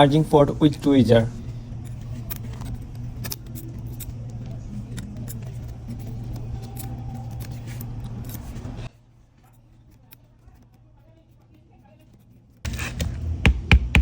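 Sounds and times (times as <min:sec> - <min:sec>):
steady low hum: 0:00.0 - 0:14.0
metal tweezers clicking and scraping: 0:01.4 - 0:12.8.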